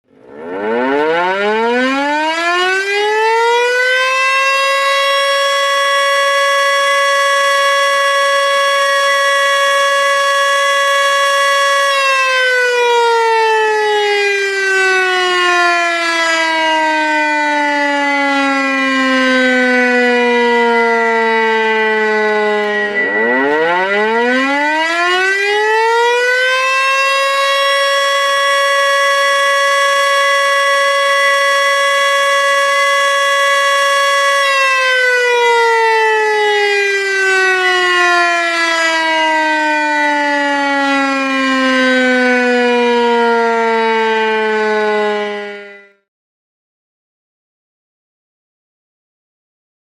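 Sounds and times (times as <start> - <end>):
tornado warning siren wailing: 0.0 - 46.1.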